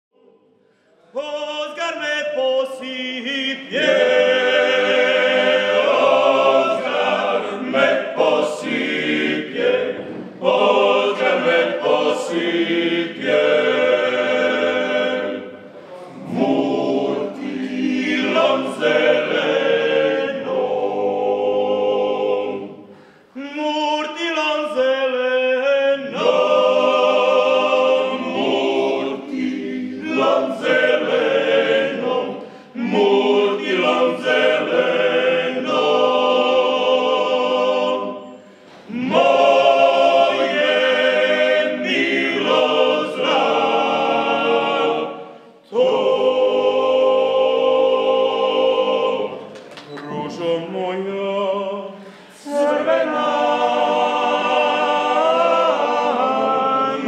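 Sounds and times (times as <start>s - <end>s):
male choir singing in harmony: 1.0s - 57.0s.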